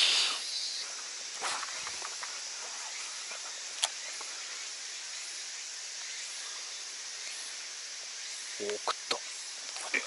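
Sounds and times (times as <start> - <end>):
outdoor ambience hiss: 0.0 - 10.0.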